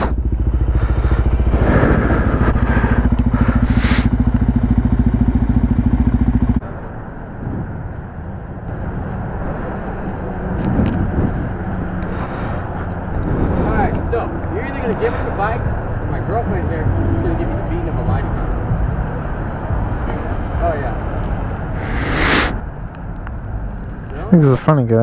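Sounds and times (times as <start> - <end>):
motorcycle engine running: 0.0 - 20.1
quieter engine sound: 0.0 - 25.0.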